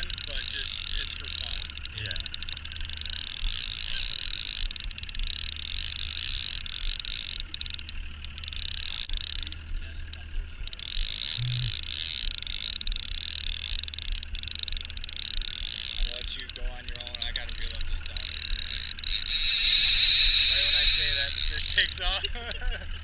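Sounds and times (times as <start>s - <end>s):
fishing reel gears whirring: 0.0s - 23.0s.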